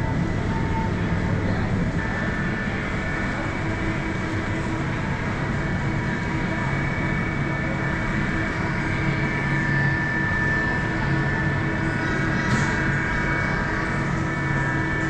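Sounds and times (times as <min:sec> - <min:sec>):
refrigerated display cases droning: 0:00.0 - 0:15.0.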